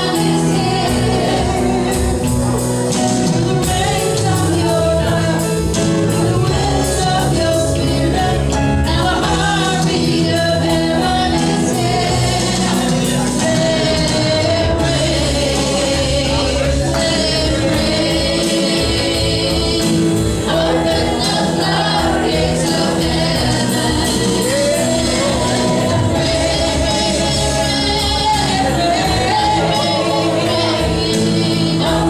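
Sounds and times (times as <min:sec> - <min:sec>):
gospel group singing: 0:00.0 - 0:32.0
instrumental accompaniment: 0:00.0 - 0:32.0.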